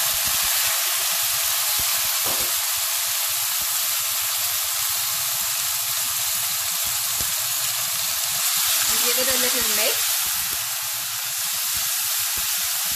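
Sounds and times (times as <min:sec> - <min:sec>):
vegetables sizzling in hot oil: 0:00.0 - 0:12.9.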